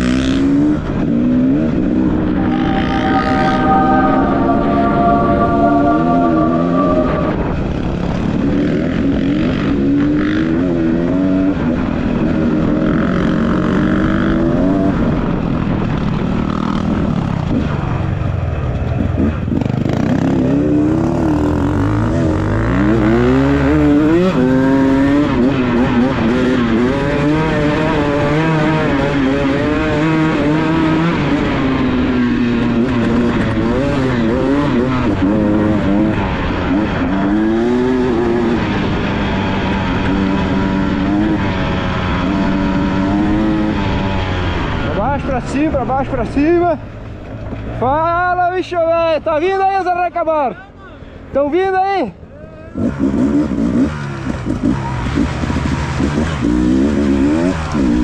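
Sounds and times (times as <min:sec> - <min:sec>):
motorcycle engine revving: 0:00.0 - 0:45.7, 0:52.8 - 0:58.0.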